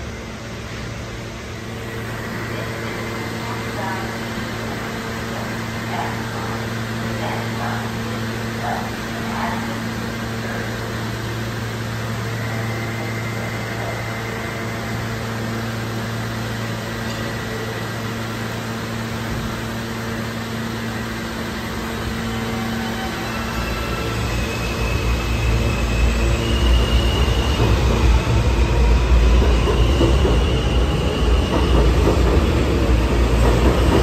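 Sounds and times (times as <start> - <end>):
subway train humming: 0.0 - 34.0.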